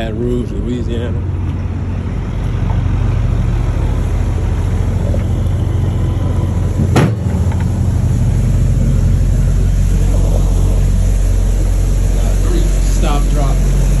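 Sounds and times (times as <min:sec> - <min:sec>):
diesel truck engine running: 0:00.0 - 0:14.0
loud rush of noise: 0:00.0 - 0:14.0.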